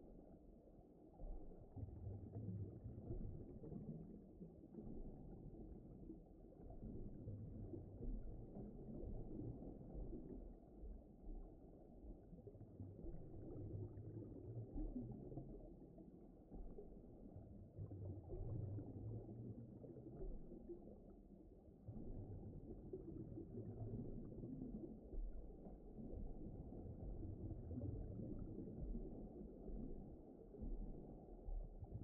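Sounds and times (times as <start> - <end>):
low underwater rumble: 0.0 - 32.0.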